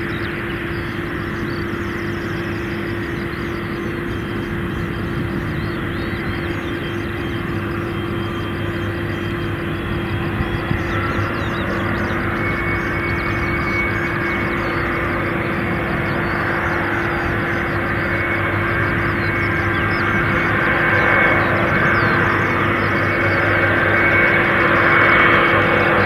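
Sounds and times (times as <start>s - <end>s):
jet engines whining at taxi power: 0.0s - 26.0s.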